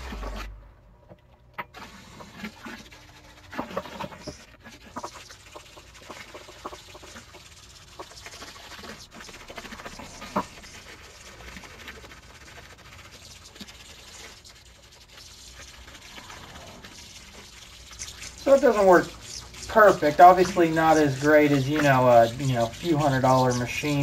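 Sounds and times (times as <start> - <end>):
water sloshing in a sink: 1.2 - 24.0
hose spraying water: 1.8 - 24.0.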